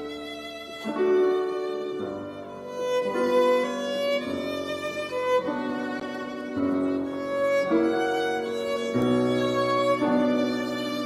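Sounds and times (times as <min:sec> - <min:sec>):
piano accompaniment: 0:00.0 - 0:11.0
violins playing slow melody: 0:00.0 - 0:11.0.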